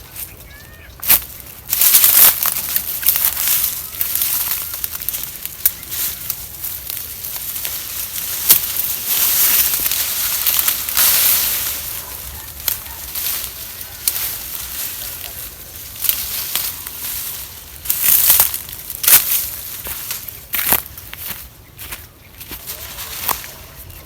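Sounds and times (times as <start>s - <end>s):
crunchy chewing: 1.0s - 24.0s.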